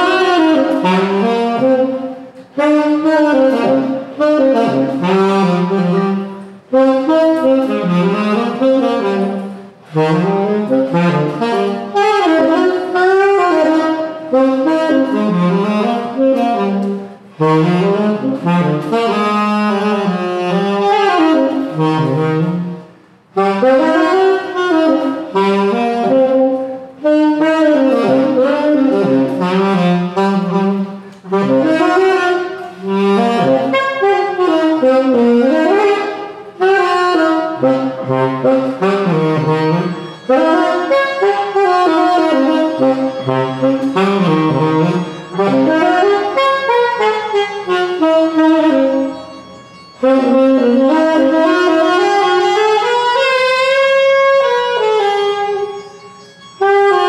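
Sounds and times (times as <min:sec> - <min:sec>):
solo tenor saxophone jazz line: 0:00.0 - 0:57.0.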